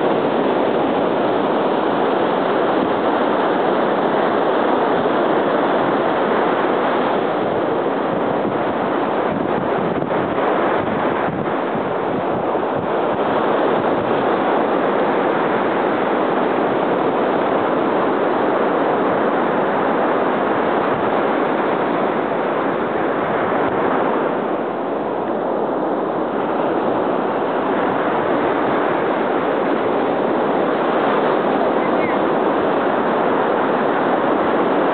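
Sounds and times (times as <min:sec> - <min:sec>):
ocean surf washing ashore: 0:00.0 - 0:34.9.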